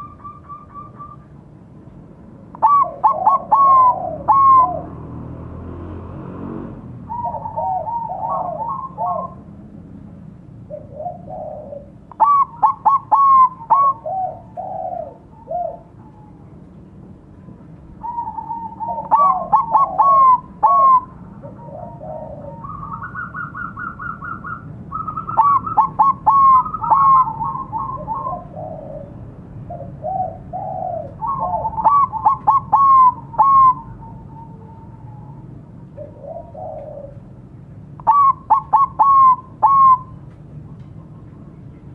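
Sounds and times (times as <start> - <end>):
dove cooing: 0.0 - 1.3, 2.6 - 5.1, 7.1 - 9.6, 10.6 - 16.6, 17.9 - 37.4, 38.0 - 40.2.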